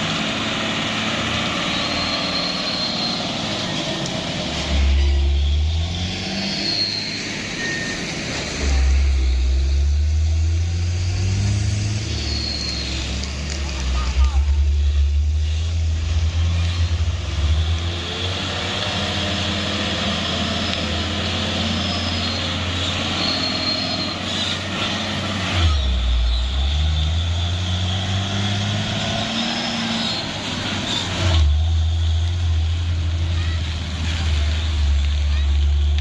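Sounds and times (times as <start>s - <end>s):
truck diesel engine revving: 0.0s - 36.0s.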